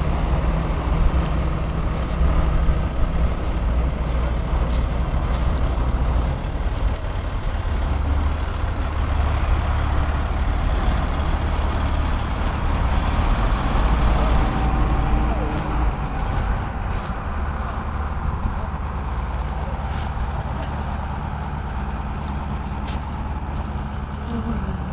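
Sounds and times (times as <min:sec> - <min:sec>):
combine harvester engine drone: 0:00.0 - 0:24.9.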